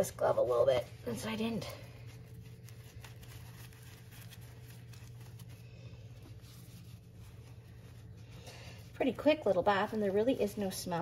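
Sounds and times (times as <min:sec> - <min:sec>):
glove rubbing dog fur: 0:00.0 - 0:11.0
steady low hum: 0:00.0 - 0:11.0.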